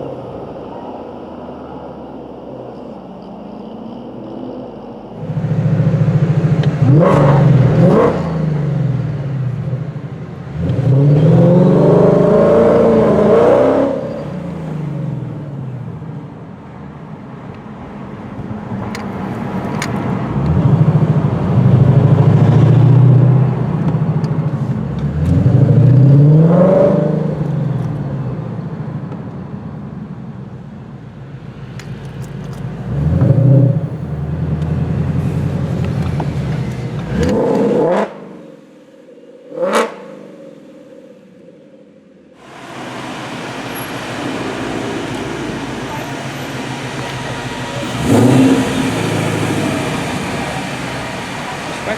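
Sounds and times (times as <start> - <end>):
car engine accelerating: 0.0 - 16.7, 18.7 - 30.2, 30.9 - 38.7, 42.4 - 51.9.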